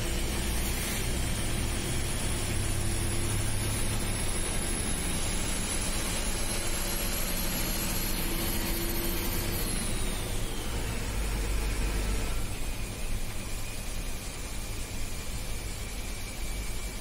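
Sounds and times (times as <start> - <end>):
high whine rising in pitch: 0.0 - 17.0
vehicle engine drone: 0.0 - 17.0.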